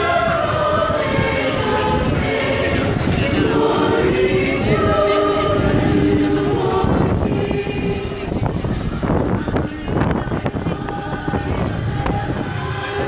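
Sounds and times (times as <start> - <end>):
choir singing carol: 0.0 - 13.0.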